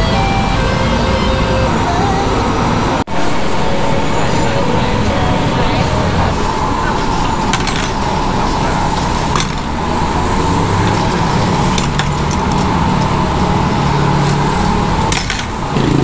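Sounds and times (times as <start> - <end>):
constant hum: 0.0 - 16.0
steady mechanical rumble: 0.0 - 16.0.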